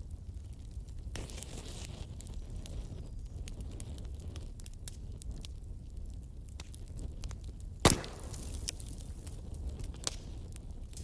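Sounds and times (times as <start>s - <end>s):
sharp hiss from fire: 0.0s - 11.0s
wood fire rumbling: 0.0s - 11.0s.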